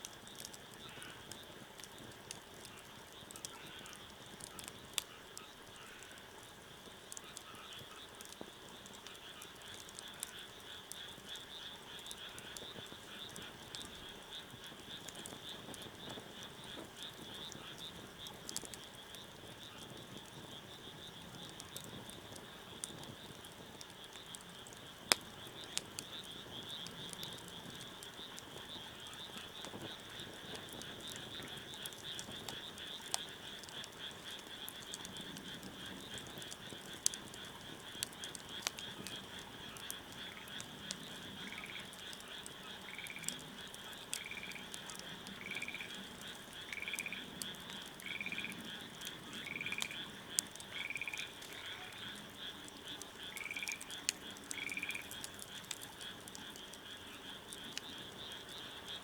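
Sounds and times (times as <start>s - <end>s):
wood fire crackling: 0.0s - 59.0s
frogs chorusing: 0.2s - 59.0s.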